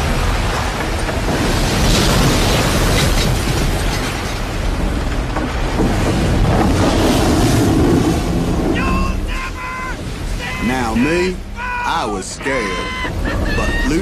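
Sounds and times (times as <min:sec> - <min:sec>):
driving rain: 0:00.0 - 0:14.0
strong wind: 0:00.0 - 0:14.0.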